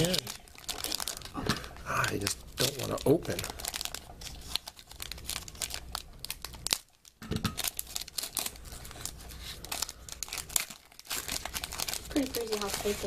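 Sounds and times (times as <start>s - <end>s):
plastic wrapper crinkling and tearing: 0.0s - 13.0s.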